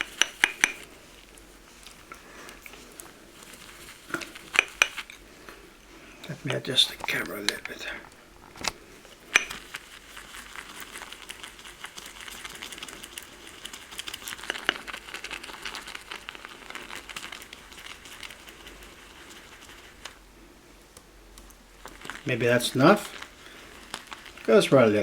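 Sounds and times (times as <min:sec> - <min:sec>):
shaving brush rustling on soap: 0:00.0 - 0:20.8, 0:21.5 - 0:25.0.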